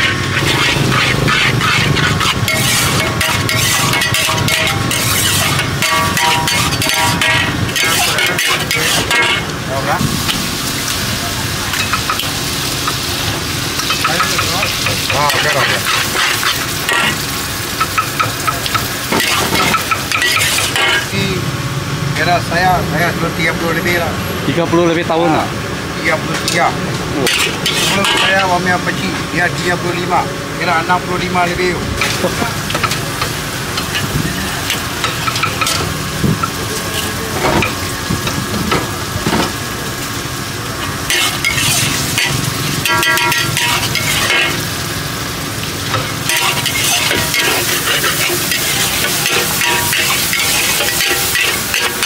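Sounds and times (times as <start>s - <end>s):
ladle scraping and clanking wok: 0.0s - 21.2s, 26.3s - 29.2s, 32.0s - 39.6s, 40.6s - 52.0s
noodles sizzling in wok: 0.0s - 21.2s, 27.2s - 28.6s, 32.0s - 52.0s.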